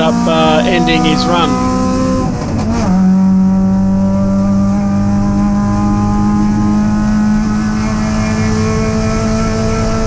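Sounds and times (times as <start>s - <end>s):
race car engine from inside cabin: 0.0s - 10.0s.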